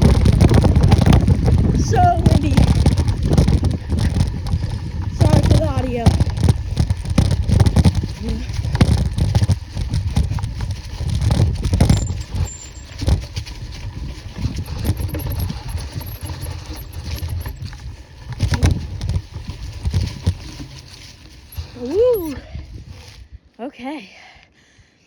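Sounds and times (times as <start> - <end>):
bike rattling and knocking: 0.0 - 22.3
wind buffeting microphone: 0.0 - 23.5.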